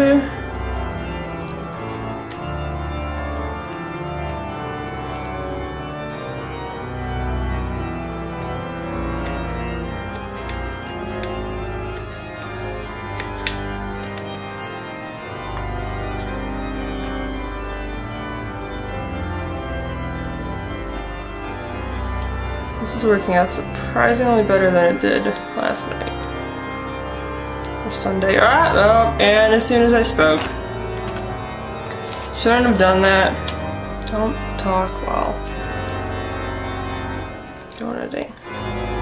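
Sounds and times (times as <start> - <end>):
sustained organ chords: 0.0 - 39.0.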